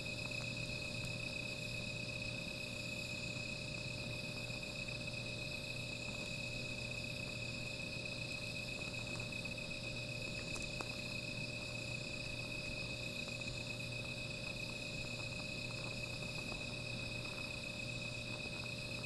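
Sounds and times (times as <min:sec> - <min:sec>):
crickets and night insects trilling: 0:00.0 - 0:19.0.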